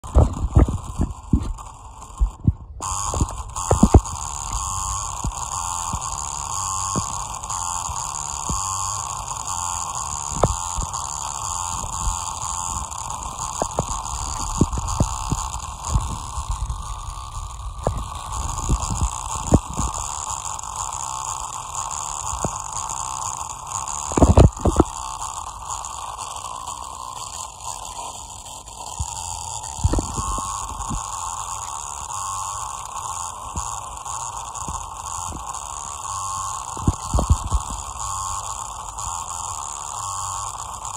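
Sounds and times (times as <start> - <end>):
steady buzzing hum: 0.0 - 40.9.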